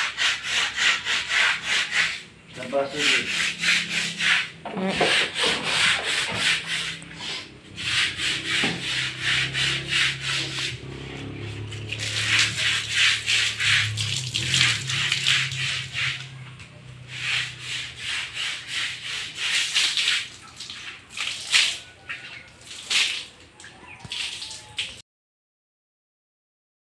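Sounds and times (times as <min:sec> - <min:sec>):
brush scrubbing wet concrete floor: 0:00.0 - 0:25.0.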